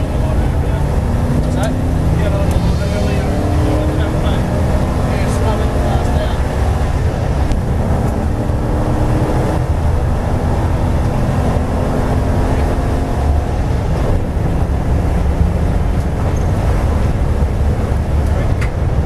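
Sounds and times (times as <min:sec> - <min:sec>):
race car engine droning: 0:00.0 - 0:19.0.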